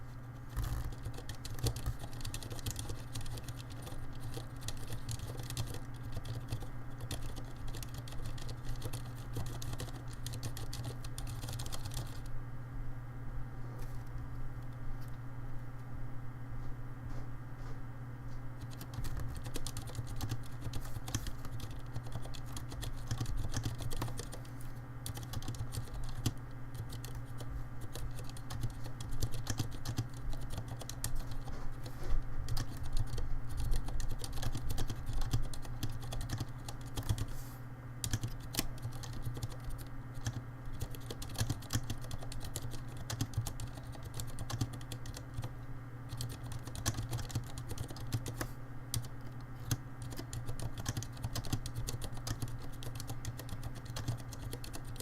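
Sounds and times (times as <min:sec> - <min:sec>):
steady low hum: 0:00.0 - 0:55.0
typing on mechanical keyboard: 0:00.5 - 0:12.3, 0:18.6 - 0:24.4, 0:25.0 - 0:31.5, 0:32.5 - 0:37.3, 0:38.0 - 0:45.5, 0:46.1 - 0:55.0.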